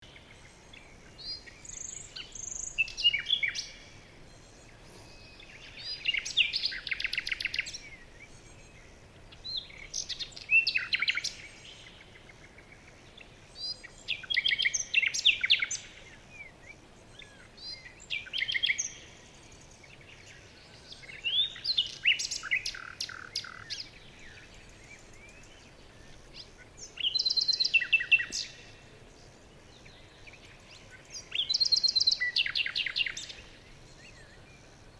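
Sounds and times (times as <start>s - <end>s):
faint background hiss: 0.0s - 34.9s
songbirds trilling and chirping: 0.0s - 34.9s.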